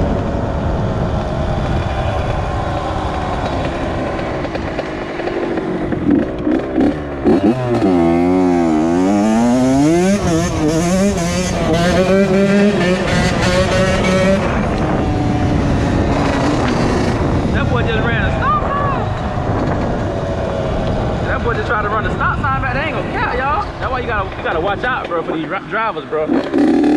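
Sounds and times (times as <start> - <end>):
dirt bike engine running: 0.0 - 26.9.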